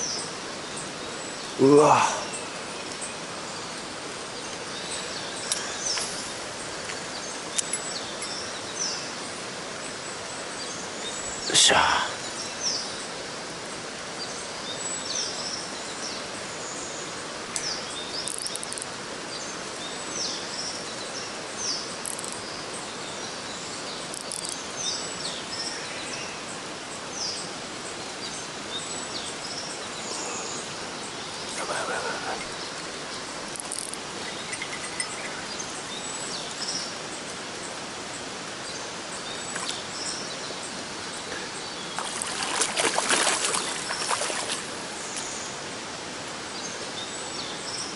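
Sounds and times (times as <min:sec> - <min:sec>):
mountain stream rushing: 0:00.0 - 0:47.9.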